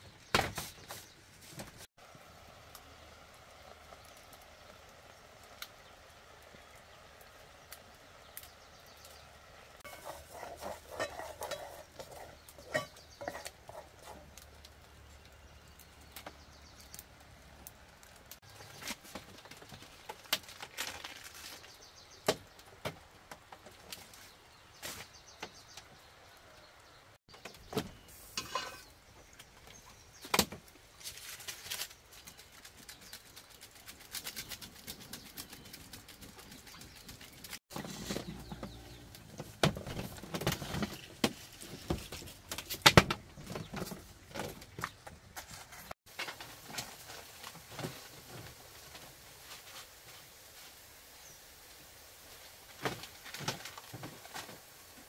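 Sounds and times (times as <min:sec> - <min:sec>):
firewood being handled: 0:00.0 - 0:01.9, 0:09.8 - 0:26.6, 0:27.3 - 0:55.0.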